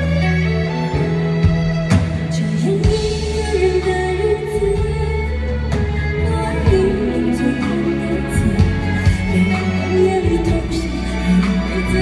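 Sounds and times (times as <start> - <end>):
band accompaniment: 0.0 - 12.0
woman singing with vibrato: 2.3 - 12.0.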